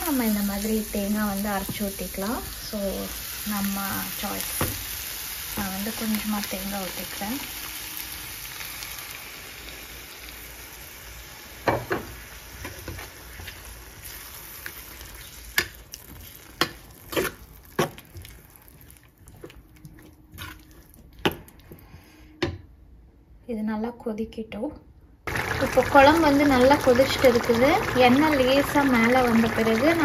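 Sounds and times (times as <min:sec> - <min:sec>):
curry sizzling in a metal pan: 0:00.0 - 0:21.1, 0:25.3 - 0:30.0.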